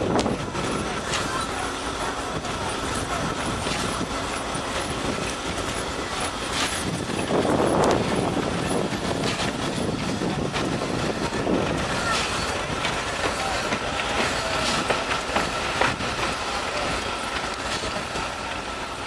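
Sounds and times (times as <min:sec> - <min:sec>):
steam hissing: 0:00.0 - 0:19.0
steam locomotive puffs: 0:00.0 - 0:19.0.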